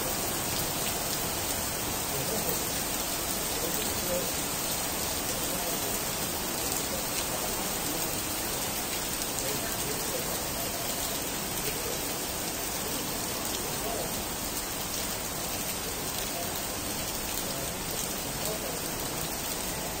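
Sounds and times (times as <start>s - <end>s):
heavy rain on stone paving: 0.0s - 20.0s.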